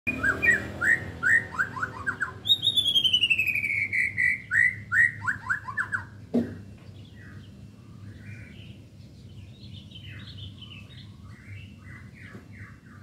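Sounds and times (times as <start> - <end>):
songbird singing: 0.1 - 13.0.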